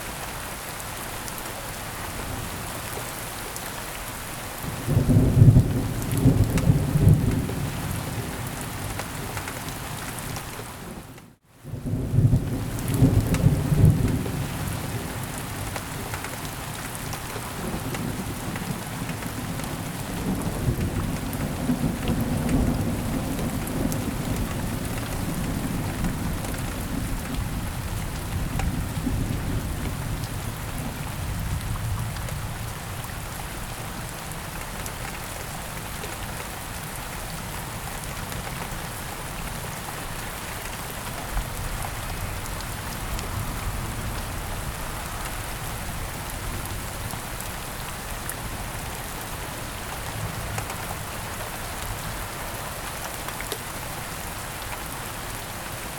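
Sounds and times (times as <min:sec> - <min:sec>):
heavy rainfall: 0:00.0 - 0:55.9.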